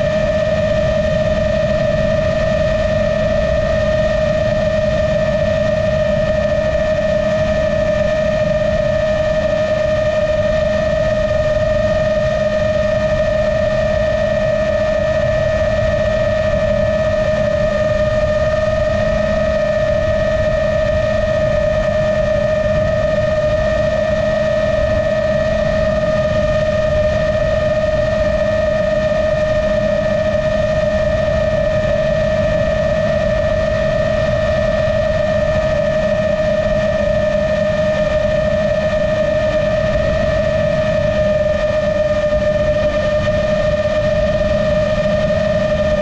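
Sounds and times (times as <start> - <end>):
rush of wind: 0.0 - 46.0.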